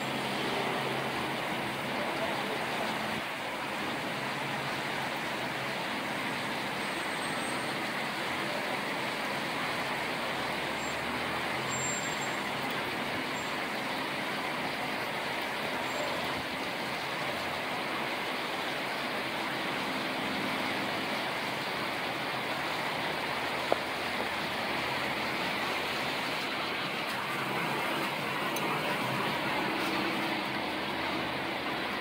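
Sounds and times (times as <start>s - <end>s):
city traffic noise: 0.0s - 32.0s.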